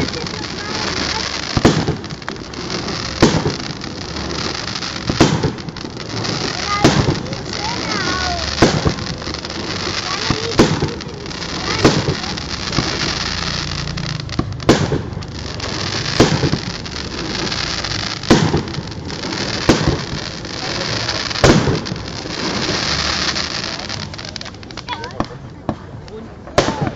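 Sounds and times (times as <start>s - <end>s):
firework shells bursting: 0.0s - 24.9s
steady background hiss: 0.0s - 26.9s.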